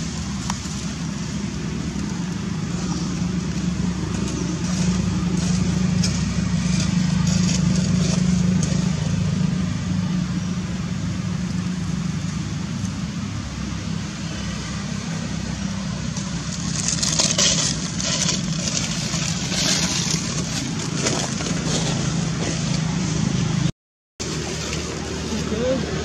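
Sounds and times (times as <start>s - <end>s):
dry leaves crackling: 0.0s - 26.0s
low engine-like hum: 0.0s - 26.0s.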